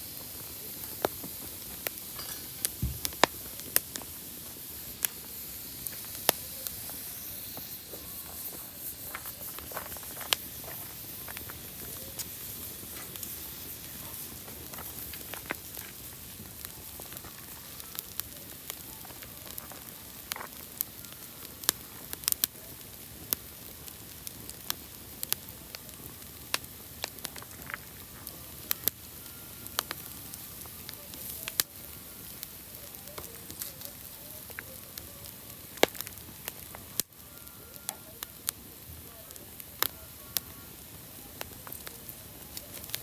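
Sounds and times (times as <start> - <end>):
campfire hissing: 0.0 - 43.0
wood crackling and popping: 0.0 - 43.0.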